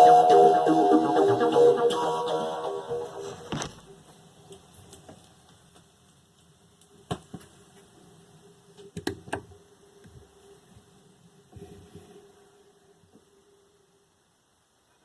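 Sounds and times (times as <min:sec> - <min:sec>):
vinyl surface hiss: 0:00.0 - 0:15.0.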